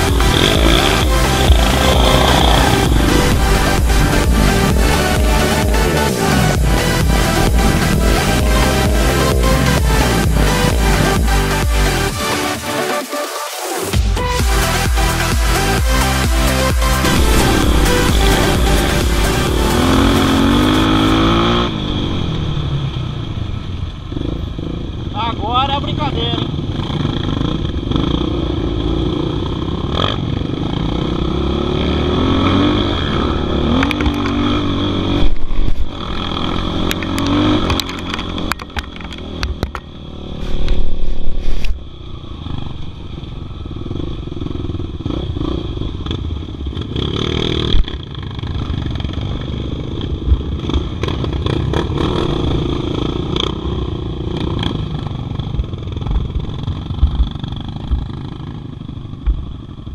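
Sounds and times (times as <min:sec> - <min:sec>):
dirt bike engine revving: 0:00.0 - 0:22.7, 0:25.9 - 0:41.1, 0:42.0 - 0:58.8.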